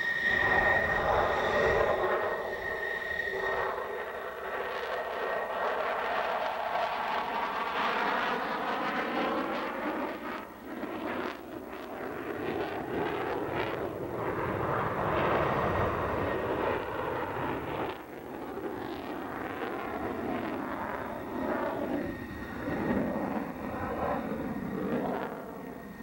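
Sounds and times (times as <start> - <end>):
fighter jet rushing overhead: 0.0 - 26.0.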